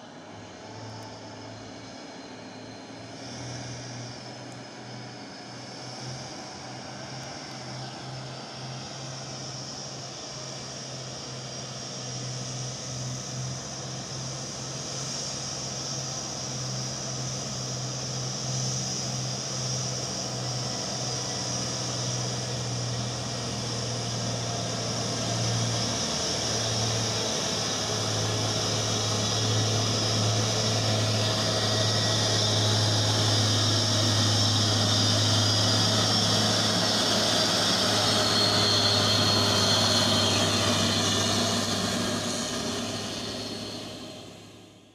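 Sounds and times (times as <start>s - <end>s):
truck diesel engine drone: 0.0s - 44.9s.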